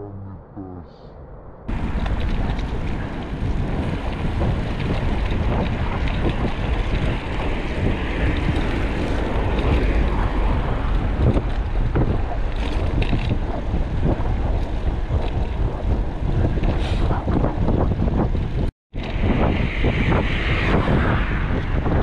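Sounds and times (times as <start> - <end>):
wind buffeting microphone: 1.4 - 22.0.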